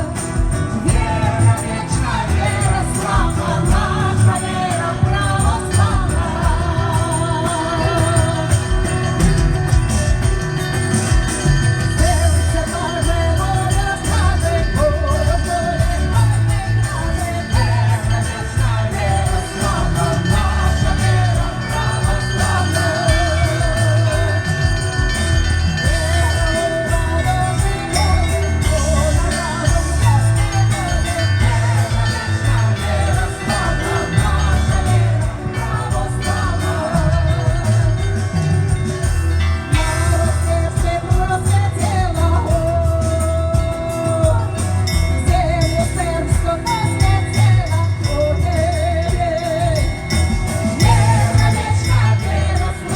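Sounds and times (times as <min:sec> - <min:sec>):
small church bells ringing: 0:01.0 - 0:41.2, 0:44.8 - 0:52.9.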